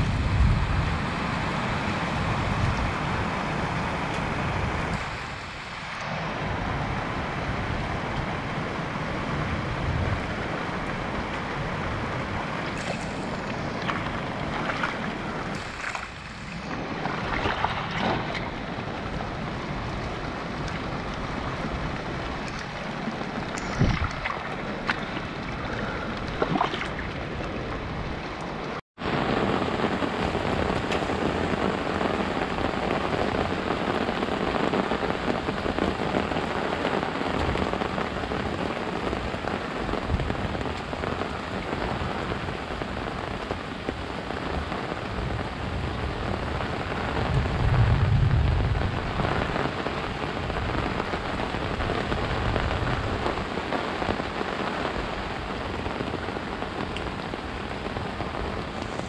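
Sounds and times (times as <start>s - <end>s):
rain falling on grass: 0.0s - 59.0s.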